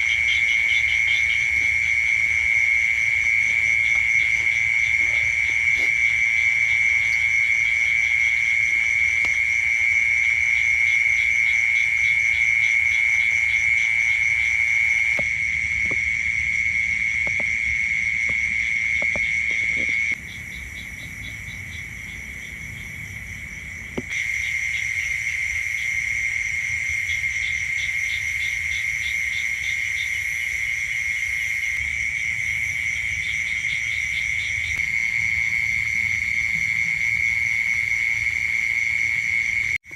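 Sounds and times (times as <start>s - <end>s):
fast pulsing insect calls: 0.0s - 39.8s
crickets trilling: 0.0s - 39.9s.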